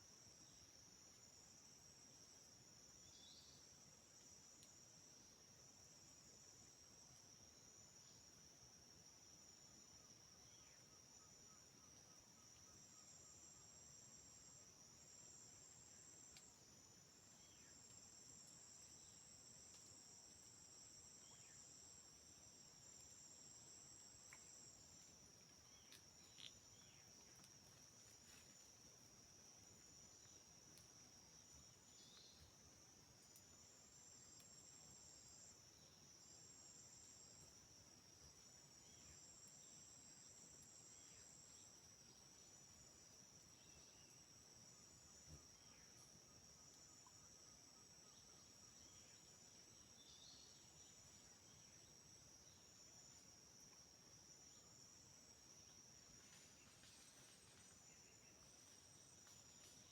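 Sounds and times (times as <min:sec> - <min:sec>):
insects chirring: 0:00.0 - 0:59.9
higher pulsing insect layer: 0:00.2 - 0:59.9.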